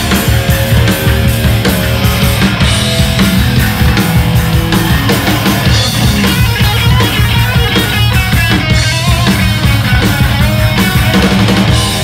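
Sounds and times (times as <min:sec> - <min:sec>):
punk band playing: 0:00.0 - 0:12.0.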